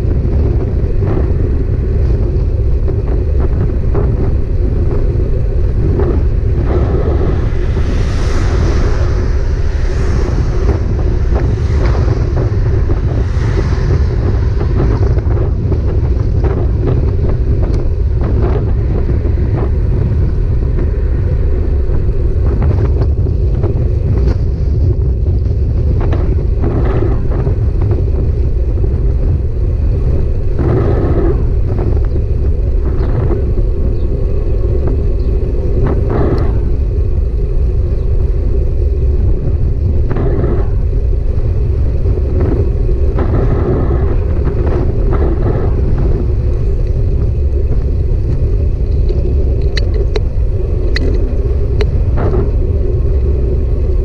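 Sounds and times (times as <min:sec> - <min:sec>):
bike riding rumble: 0:00.0 - 0:54.0.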